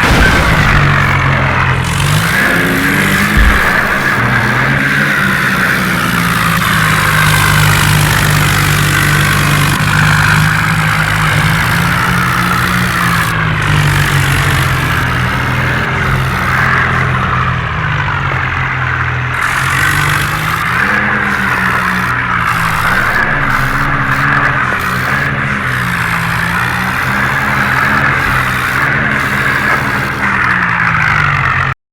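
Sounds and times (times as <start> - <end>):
tractor diesel engine running: 0.0 - 31.8.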